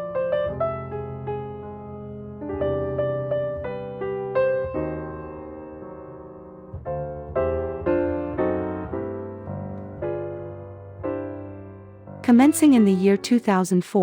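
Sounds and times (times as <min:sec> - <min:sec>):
soft piano chords: 0:00.0 - 0:13.7.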